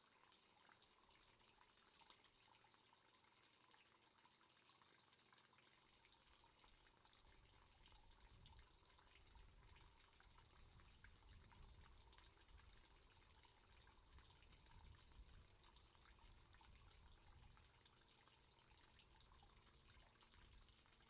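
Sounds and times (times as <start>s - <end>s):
pond water trickling and dripping: 0.0s - 21.0s.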